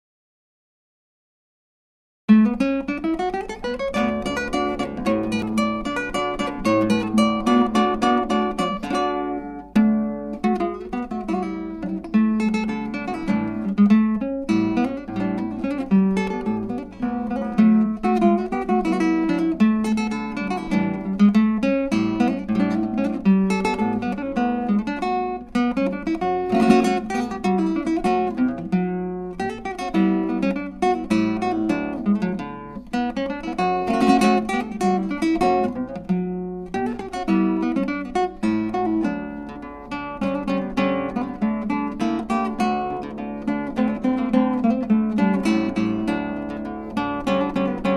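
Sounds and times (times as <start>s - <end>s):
acoustic guitar playing: 2.3s - 47.9s.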